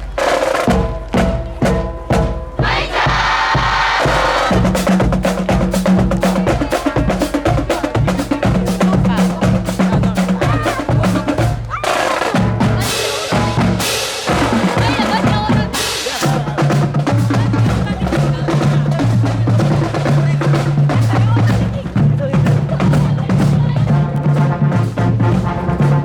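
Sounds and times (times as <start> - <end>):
bass drum beat: 0.0 - 26.0
marching band brass: 0.0 - 26.0
snare drum: 0.0 - 26.0.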